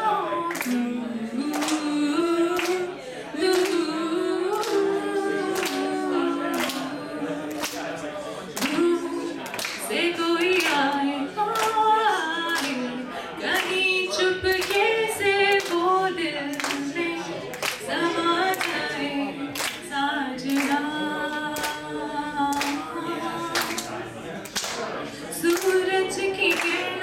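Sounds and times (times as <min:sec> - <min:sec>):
woman singing unaccompanied: 0:00.0 - 0:07.8, 0:08.6 - 0:24.0, 0:25.3 - 0:27.0
audience clapping along: 0:00.4 - 0:27.0.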